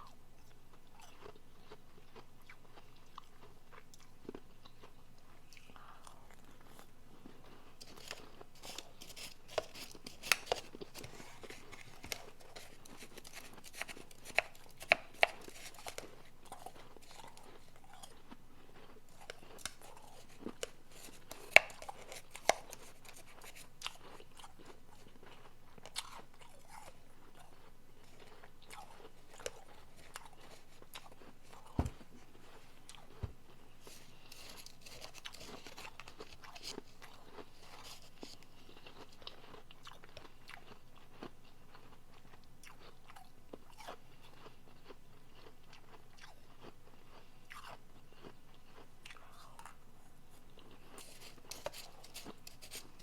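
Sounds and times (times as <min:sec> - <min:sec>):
chewing crunchy ice: 0:00.0 - 0:53.0.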